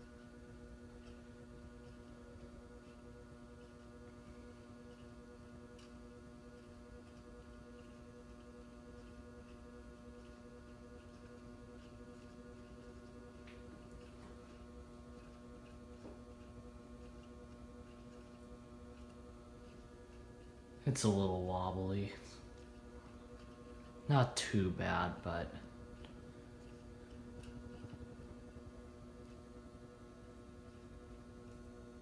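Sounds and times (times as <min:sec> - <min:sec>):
ceiling fan motor hum: 0:00.0 - 0:32.0.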